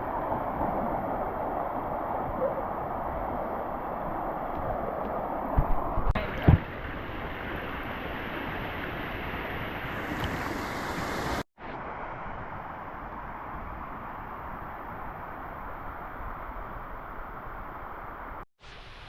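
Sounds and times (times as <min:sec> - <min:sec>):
waterfall and rapids rushing: 0:00.0 - 0:19.0.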